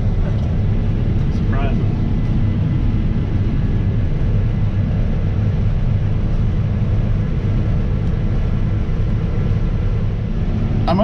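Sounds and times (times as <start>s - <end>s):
combine harvester rumbling: 0.0s - 11.0s.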